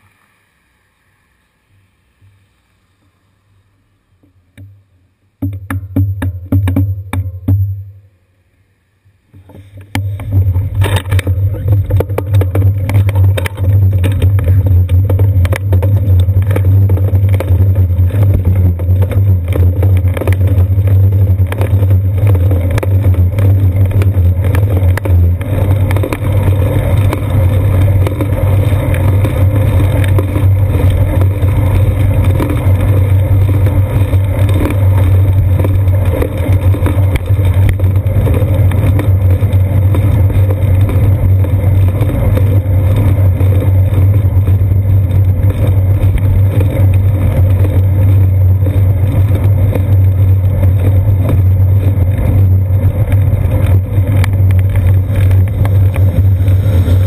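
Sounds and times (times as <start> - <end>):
wind and road vibration rumble: 9.3 - 57.0.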